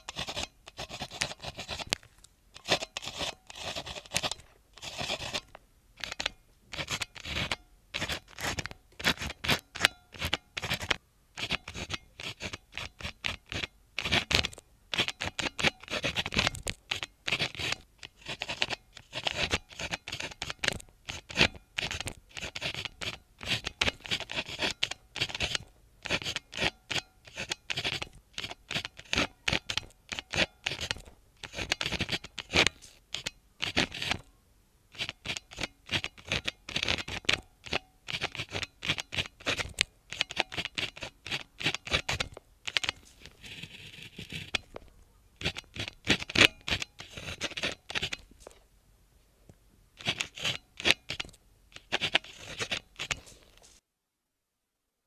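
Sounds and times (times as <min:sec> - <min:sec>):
pen scratching on paper: 0:00.0 - 0:02.0, 0:02.6 - 0:34.3, 0:34.9 - 0:48.3, 0:50.0 - 0:53.8.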